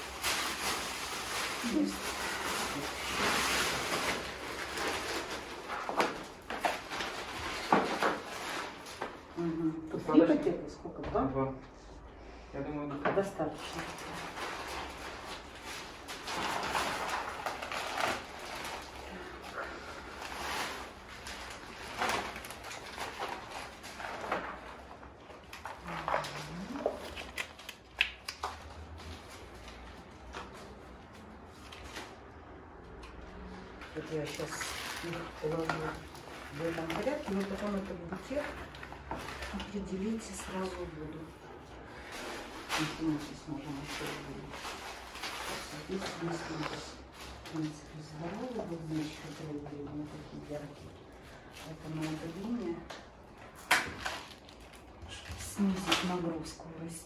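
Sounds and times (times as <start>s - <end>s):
plastic sheeting crinkling: 0.0s - 9.7s, 13.4s - 32.8s, 33.4s - 56.5s.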